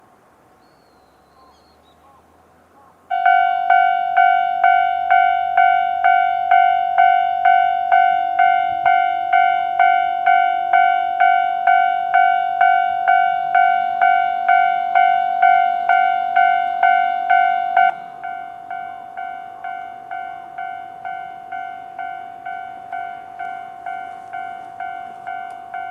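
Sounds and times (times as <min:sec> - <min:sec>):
railway crossing alarm ringing: 0:03.1 - 0:25.9.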